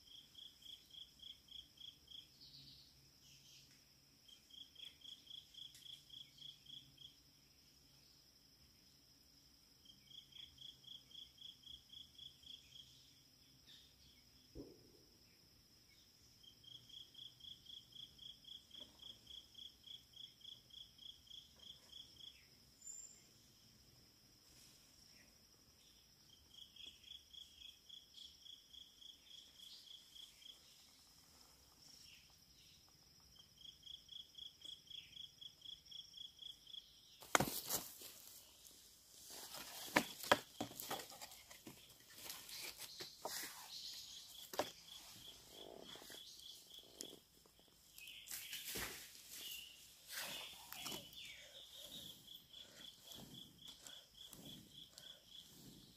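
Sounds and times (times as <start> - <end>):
insect pulsed chirp: 0.0 - 55.9.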